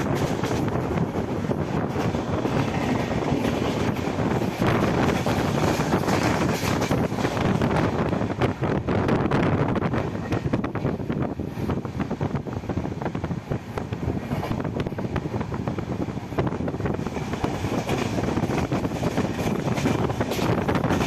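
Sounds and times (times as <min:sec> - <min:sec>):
train rumbling and rattling: 0:00.0 - 0:21.0
wind buffeting microphone: 0:00.0 - 0:21.0.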